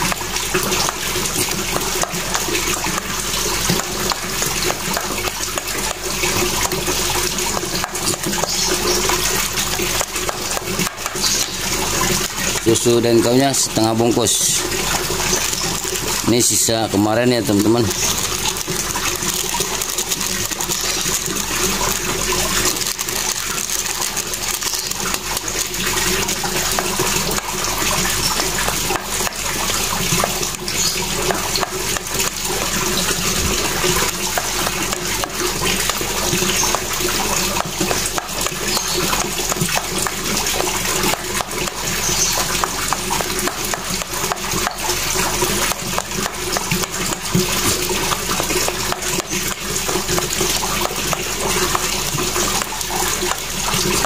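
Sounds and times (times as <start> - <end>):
running water: 0.0 - 54.0
spoon stirring dough in metal bowl: 0.0 - 54.0.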